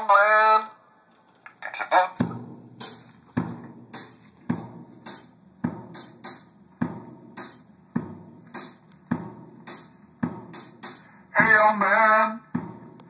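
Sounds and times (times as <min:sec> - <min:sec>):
slow drum beat over studio monitors: 0:02.2 - 0:13.0.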